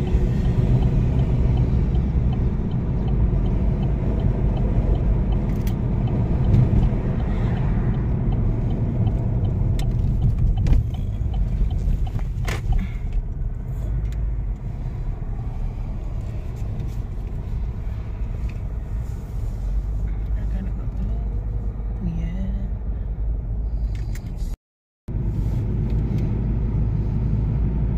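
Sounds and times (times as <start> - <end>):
car road and engine rumble: 0.0 - 27.9.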